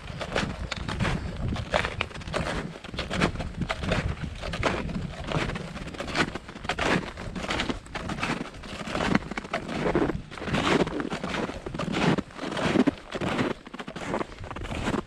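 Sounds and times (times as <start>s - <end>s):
footsteps crunching in snow: 0.0s - 15.0s
wind rumble on microphone: 0.0s - 15.0s.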